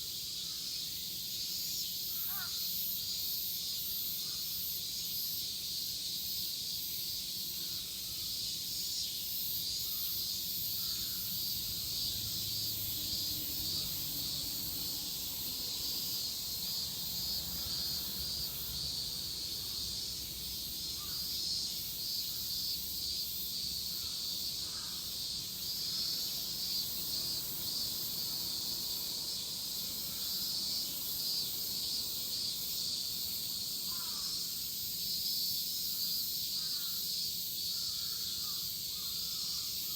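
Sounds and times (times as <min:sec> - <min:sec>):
cicadas shrilling: 0:00.0 - 0:39.9.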